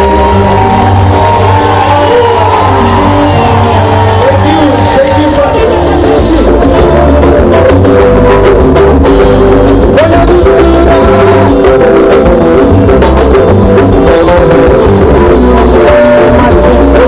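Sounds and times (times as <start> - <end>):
man singing into a microphone: 0.0 - 13.2, 13.9 - 17.0
live band music: 0.0 - 17.0.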